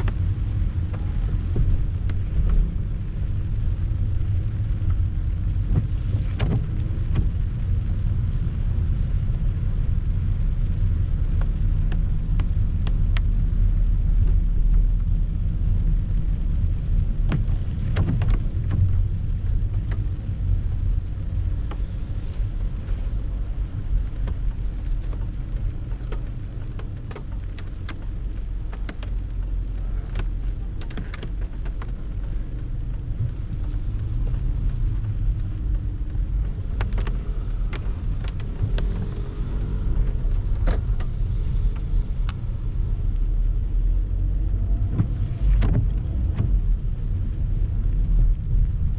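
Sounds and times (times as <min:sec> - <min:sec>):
heavy rain shower: 0:00.0 - 0:48.9
sharp rain taps: 0:00.0 - 0:48.9.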